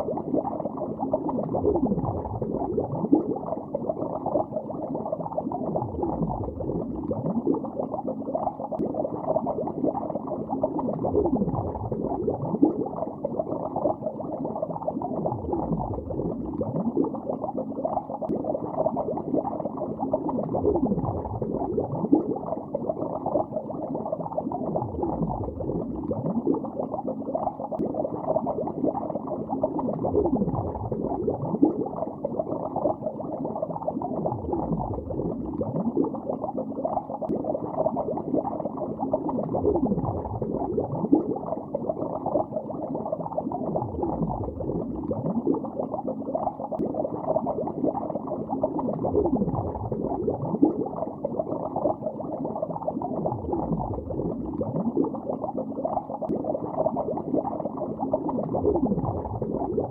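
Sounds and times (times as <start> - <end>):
underwater bubbling: 0.0 - 59.9.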